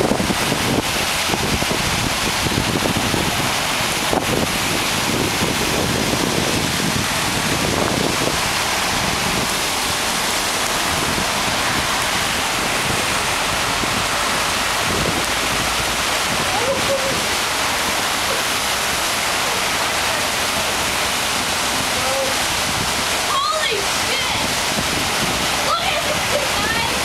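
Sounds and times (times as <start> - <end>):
floodwater rushing: 0.0 - 27.0
rain: 0.0 - 27.0
wind buffeting microphone: 0.0 - 27.0.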